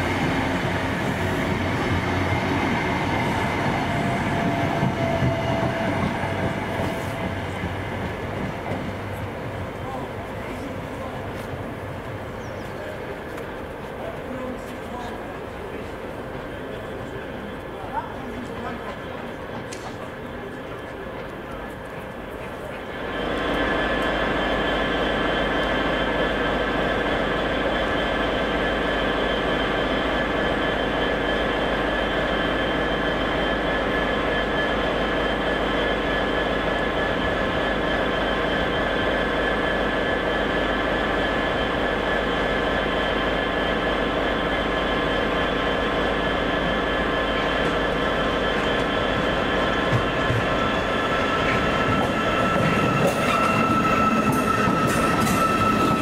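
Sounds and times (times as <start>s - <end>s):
train running with low drone: 0.0s - 56.0s.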